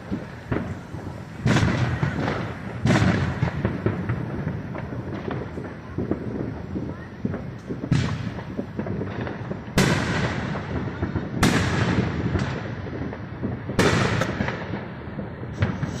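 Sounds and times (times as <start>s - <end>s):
distant firework bangs: 0.0s - 16.0s
faint firework pops and crackles: 0.0s - 16.0s.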